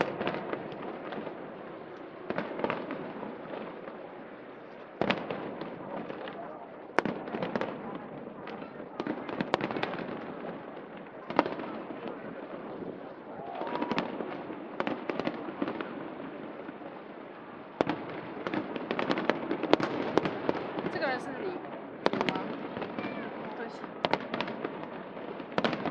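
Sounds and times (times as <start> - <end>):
crowd murmur: 0.0 - 25.9
fireworks bangs and pops: 0.0 - 25.9.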